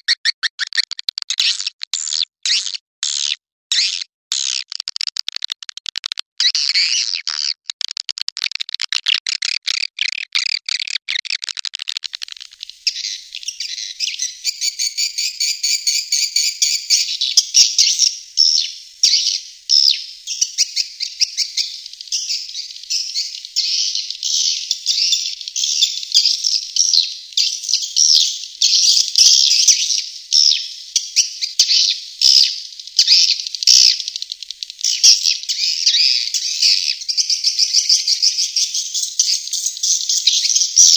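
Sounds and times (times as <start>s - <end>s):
swiftlets twittering and chirping: 5.9s - 40.9s.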